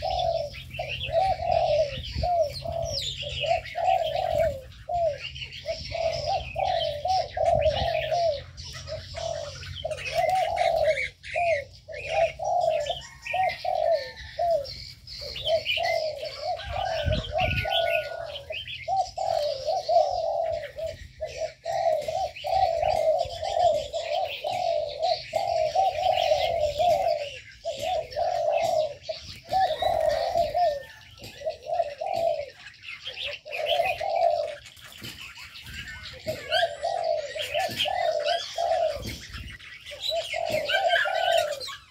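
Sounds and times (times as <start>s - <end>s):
doves cooing: 0.0s - 41.9s
small birds chirping: 0.0s - 41.9s.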